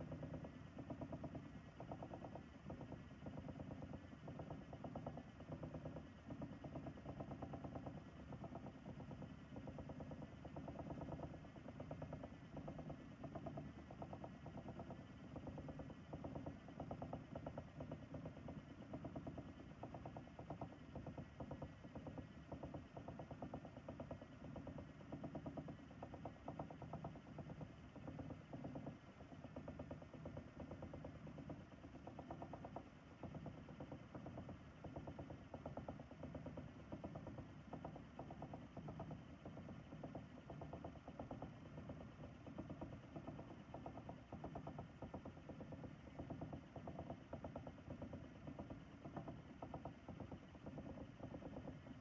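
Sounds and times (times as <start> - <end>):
spinning wheel motor whirring: 0.0 - 52.0.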